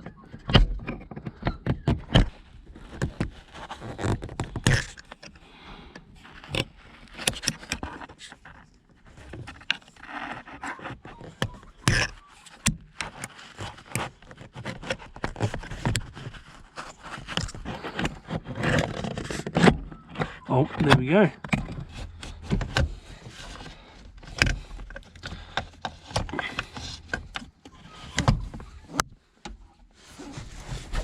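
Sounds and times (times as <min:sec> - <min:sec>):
clicks knocks and scraping of clip: 0:00.0 - 0:31.0.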